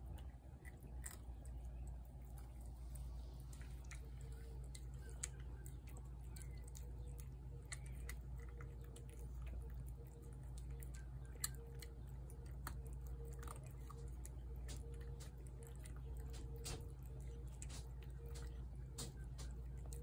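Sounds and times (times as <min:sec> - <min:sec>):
cat chewing wet food: 0:00.0 - 0:20.0
steady low hum: 0:00.0 - 0:20.0.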